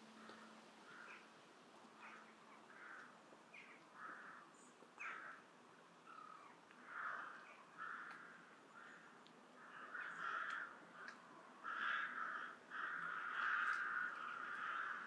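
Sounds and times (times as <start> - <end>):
crows cawing: 0.2 - 1.3, 2.0 - 15.0.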